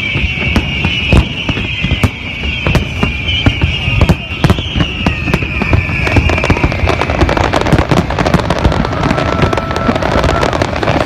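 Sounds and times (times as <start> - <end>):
firework whistle falling in pitch: 0.0 - 11.0
fireworks bursts and crackling bangs: 0.0 - 11.0.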